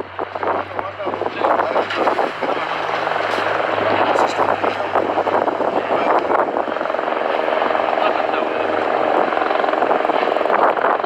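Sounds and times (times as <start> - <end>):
continuous noisy rush: 0.0 - 11.0
steady engine drone: 0.0 - 11.0.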